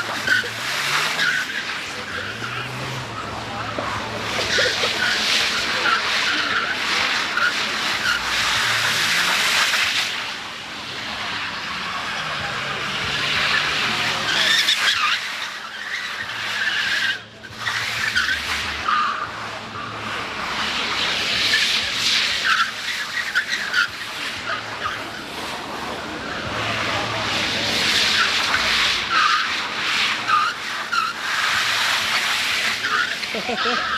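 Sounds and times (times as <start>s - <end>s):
car tyres squealing: 0.0s - 33.9s.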